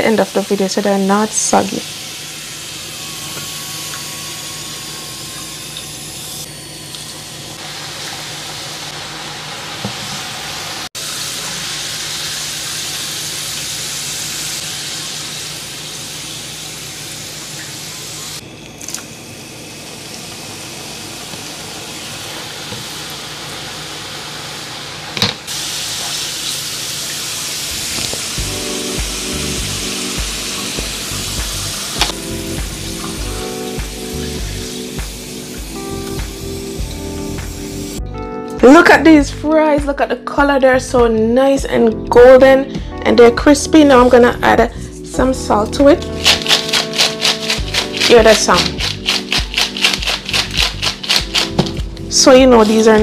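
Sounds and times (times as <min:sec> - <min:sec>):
fries sizzling in oil: 0:00.0 - 0:18.4, 0:19.0 - 0:38.0, 0:45.8 - 0:53.0.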